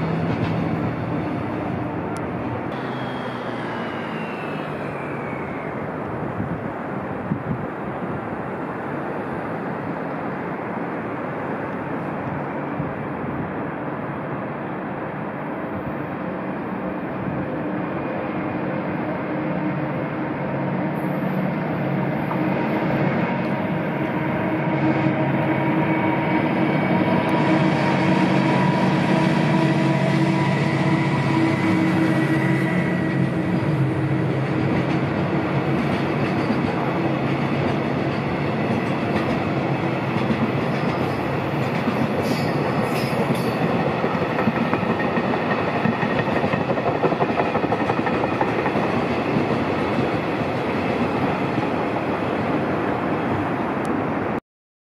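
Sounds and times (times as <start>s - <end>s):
locomotive engine hum: 0.0s - 52.3s.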